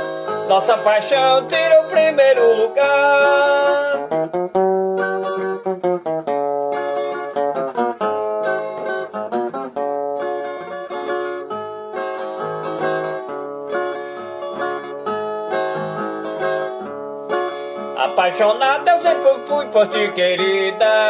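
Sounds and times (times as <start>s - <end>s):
plucked acoustic strings melody: 0.0s - 21.0s.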